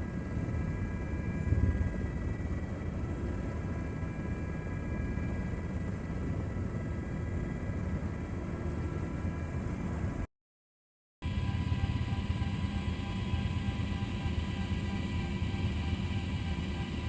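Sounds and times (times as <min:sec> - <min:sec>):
helicopter rotor rumble: 0:00.0 - 0:10.2, 0:11.2 - 0:17.0
turbine whine: 0:00.0 - 0:10.3, 0:11.2 - 0:17.0.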